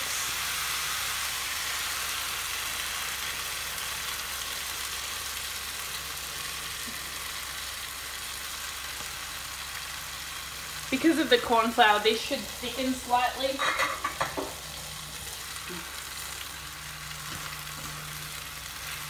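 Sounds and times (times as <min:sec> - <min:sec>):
stir-fry sizzling in a frying pan: 0:00.0 - 0:19.0.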